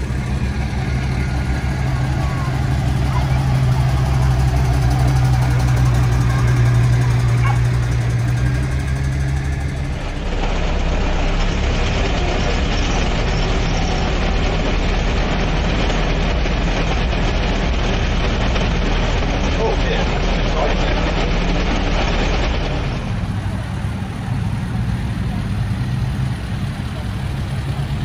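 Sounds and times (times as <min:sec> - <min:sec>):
engine and road rumble inside cab: 0:00.0 - 0:28.0
lorry engine running: 0:00.0 - 0:28.0.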